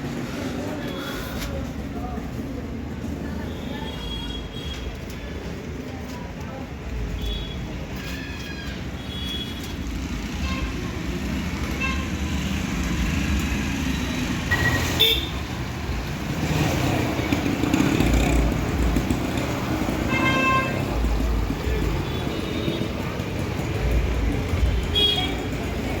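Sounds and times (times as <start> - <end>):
traffic engine rumble: 0.0 - 26.0.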